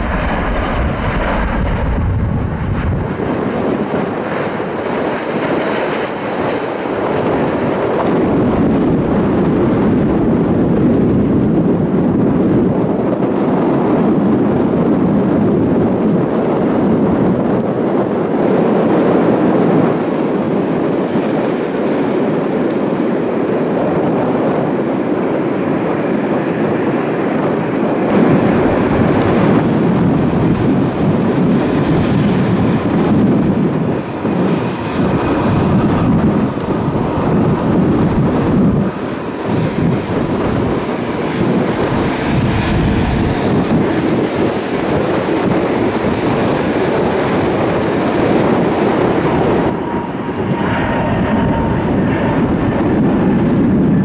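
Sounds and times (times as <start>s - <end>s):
jet engine faint high whine: 0.0s - 54.0s
jet roar of landing airliner: 0.0s - 54.0s.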